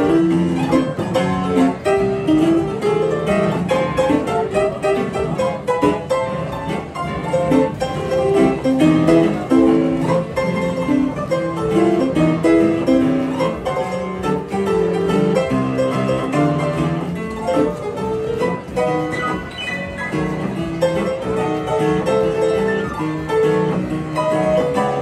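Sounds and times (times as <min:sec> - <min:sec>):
lively piano melody: 0:00.0 - 0:25.0.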